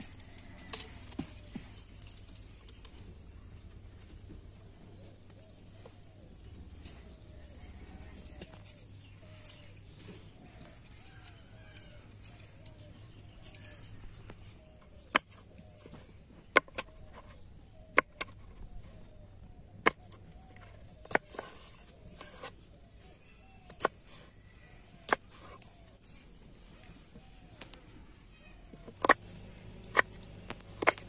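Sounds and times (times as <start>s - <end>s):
faint bird calls: 4.0s - 29.2s.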